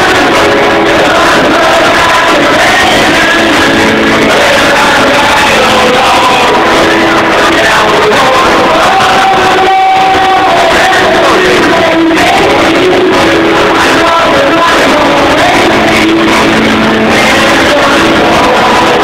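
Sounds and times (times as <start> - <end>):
group of amateur voices singing: 0.0 - 19.0
pop backing track: 0.0 - 19.0.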